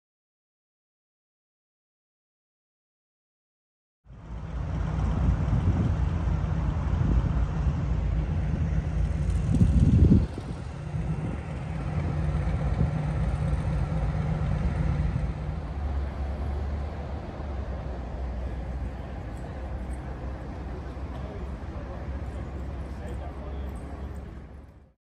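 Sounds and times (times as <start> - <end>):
road traffic rumble: 4.1 - 25.0.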